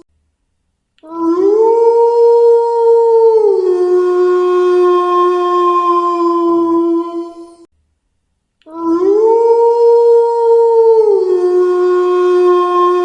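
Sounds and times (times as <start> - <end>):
wolf howling: 1.0 - 7.7, 8.7 - 13.0.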